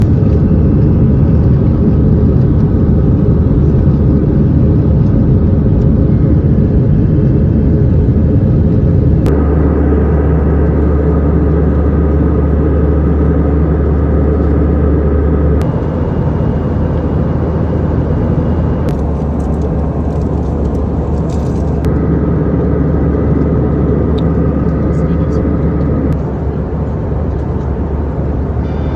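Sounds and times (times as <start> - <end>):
airplane cabin engine drone: 0.0 - 28.9.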